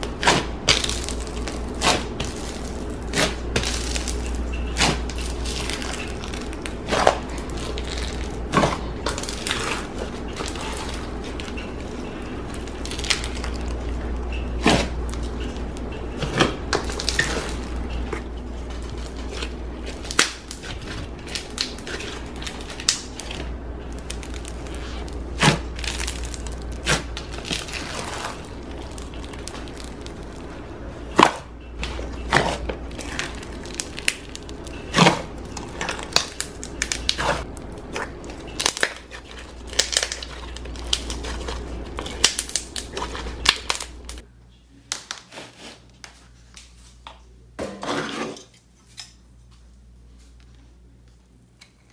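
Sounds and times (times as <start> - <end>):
slime crackling and popping: 0.0 - 30.5, 31.2 - 44.2
steady low hum: 0.0 - 51.9.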